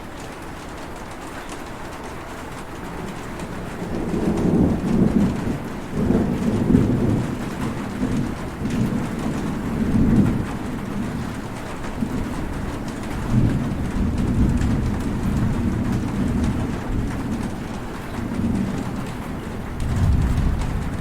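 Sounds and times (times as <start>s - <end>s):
heavy rain: 0.0s - 21.0s
thunder rumbling: 3.0s - 21.0s.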